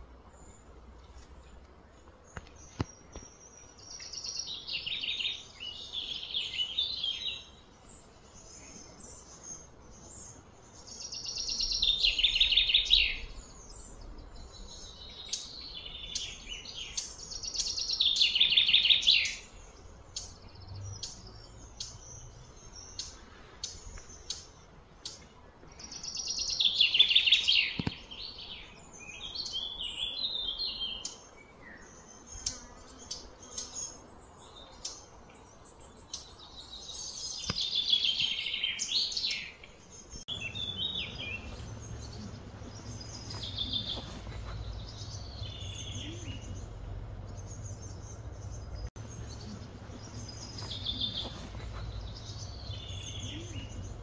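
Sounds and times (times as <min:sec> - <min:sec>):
bird chirps: 0:02.3 - 0:54.0.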